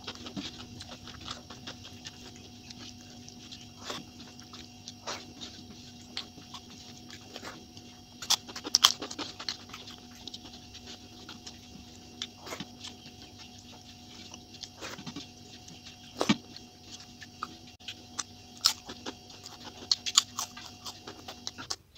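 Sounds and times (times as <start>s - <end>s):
faint steady hum: 0.0s - 21.9s
mouth chewing clicks and smacks: 0.0s - 21.9s.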